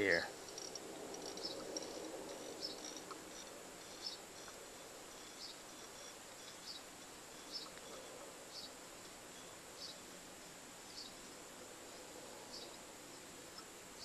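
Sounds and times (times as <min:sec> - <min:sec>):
cricket chirping: 0:00.0 - 0:14.0
low hiss: 0:00.0 - 0:14.0.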